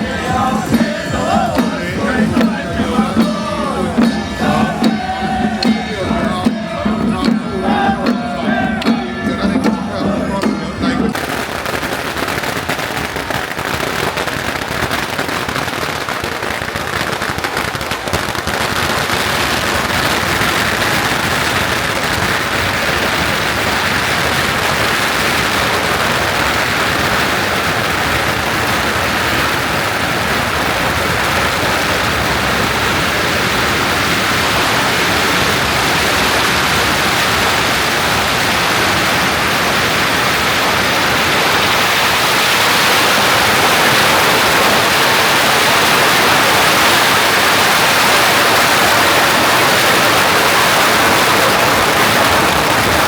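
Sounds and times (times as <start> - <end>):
firecrackers crackling: 0.0 - 53.0.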